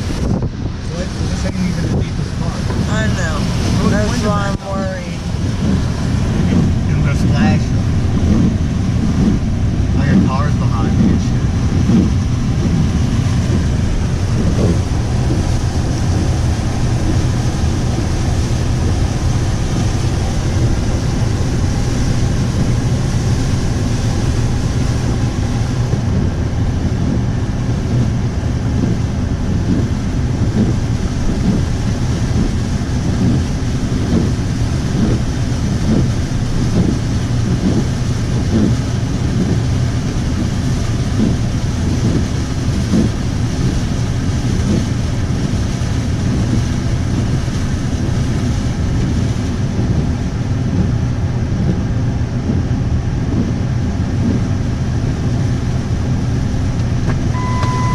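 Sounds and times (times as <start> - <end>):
car engine and tyres rumbling: 0.0 - 57.9
water splashing under car: 0.0 - 57.9.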